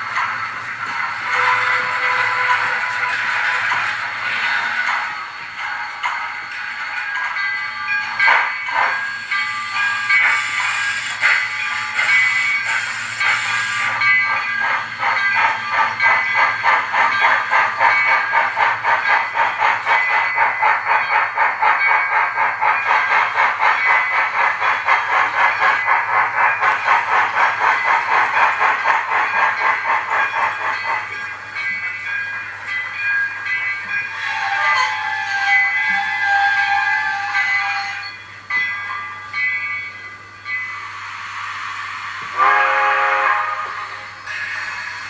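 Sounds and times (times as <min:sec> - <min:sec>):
rhythmic steam chuffing: 0:00.0 - 0:45.0.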